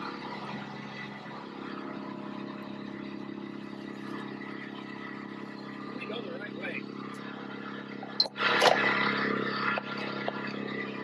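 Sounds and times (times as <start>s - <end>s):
wood chipper running: 0.0s - 11.0s.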